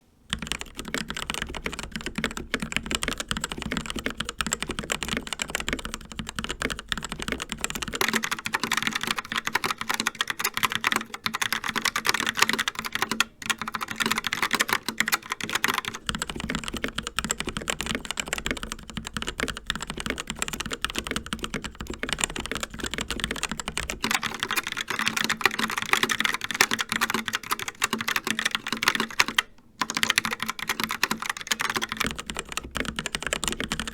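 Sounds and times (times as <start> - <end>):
typing on mechanical keyboards: 0.3 - 33.9.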